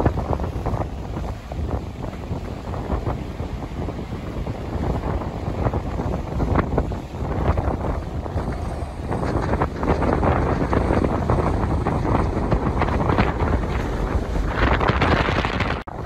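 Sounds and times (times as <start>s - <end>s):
choppy water: 0.0s - 16.0s
gusty wind on microphone: 0.0s - 16.0s.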